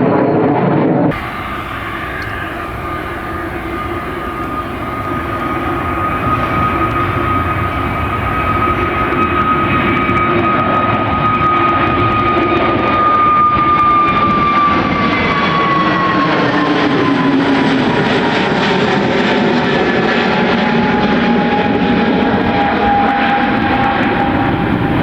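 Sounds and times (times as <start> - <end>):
jet engines whining: 0.2 - 25.0.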